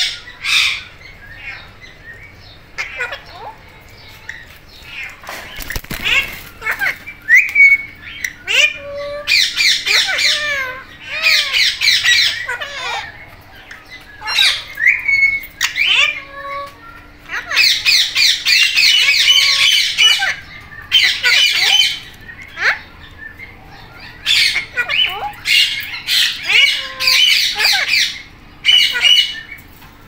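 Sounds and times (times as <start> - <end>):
parakeets squawking: 0.0 - 29.9
faint steady hum: 0.0 - 30.0.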